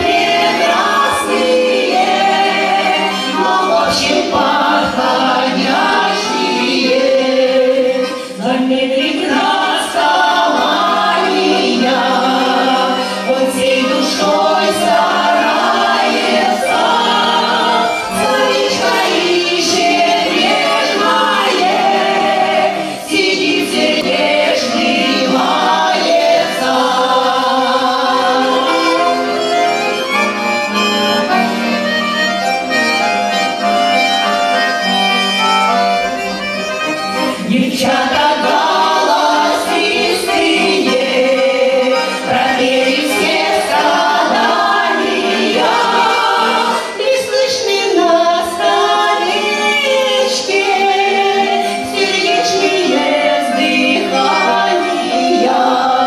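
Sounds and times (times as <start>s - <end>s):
vocal ensemble singing: 0.0s - 30.0s, 37.2s - 56.0s
accordion: 0.0s - 56.0s.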